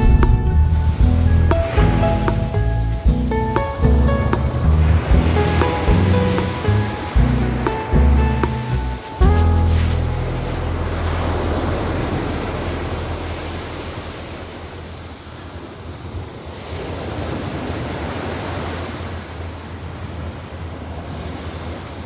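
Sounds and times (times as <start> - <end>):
waves washing on a beach: 0.0 - 22.0
wind rumbling on microphone: 0.0 - 22.0.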